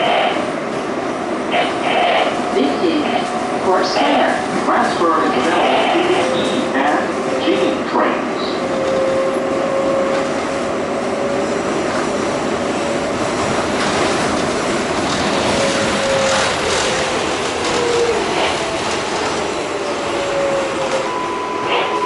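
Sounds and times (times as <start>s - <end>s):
subway wheels rumbling on rails: 0.0s - 22.0s.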